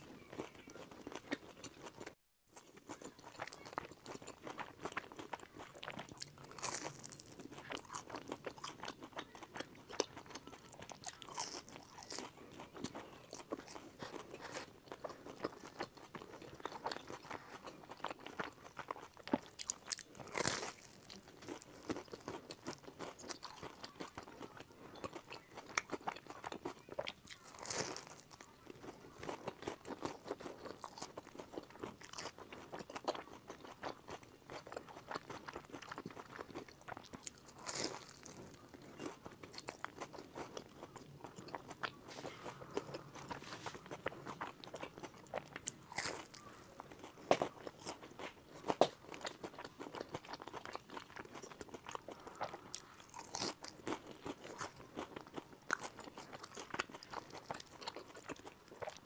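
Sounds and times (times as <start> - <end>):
crunching and chewing: 0.0 - 59.0
loud crunchy bites: 4.0 - 9.2, 9.9 - 24.3, 25.6 - 41.9, 42.5 - 59.0.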